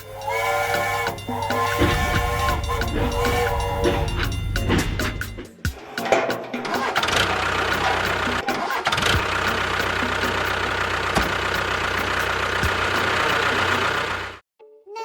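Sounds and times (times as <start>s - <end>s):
tractor engine running: 0.0s - 5.5s, 7.0s - 14.4s.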